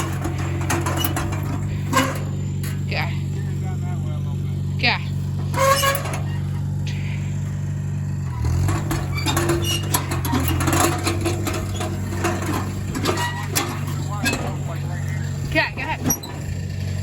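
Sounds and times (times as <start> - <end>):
clicks and rattles: 0.0 - 3.3, 5.3 - 7.0, 8.3 - 17.0
small tractor engine running: 0.0 - 17.0.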